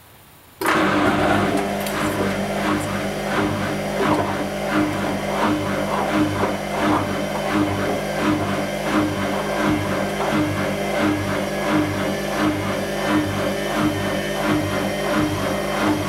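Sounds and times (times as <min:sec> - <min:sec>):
washing machine motor hum: 0:00.6 - 0:16.0.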